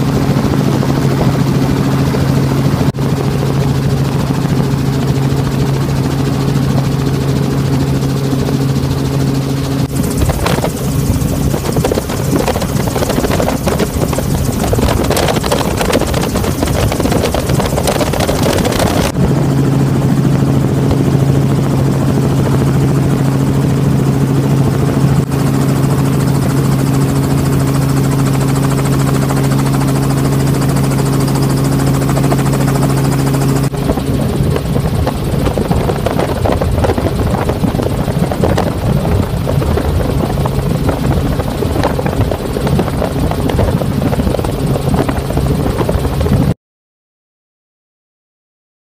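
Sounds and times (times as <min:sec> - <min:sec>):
helicopter engine and rotor drone: 0:00.0 - 0:46.6.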